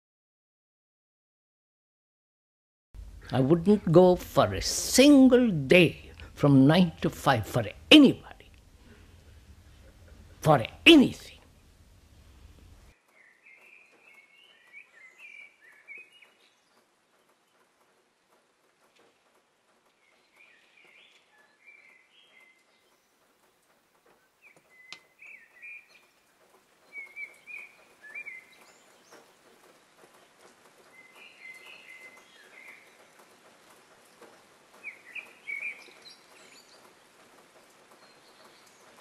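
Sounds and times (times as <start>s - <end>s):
faint birds chirping: 3.0s - 39.0s.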